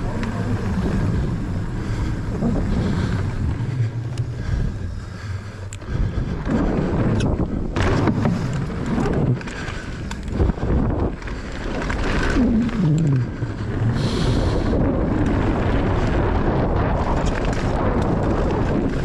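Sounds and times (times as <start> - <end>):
bike knocking and rattling: 0.0 - 19.0
bike tyres rolling on dirt: 0.0 - 19.0
wind buffeting microphone: 0.0 - 19.0.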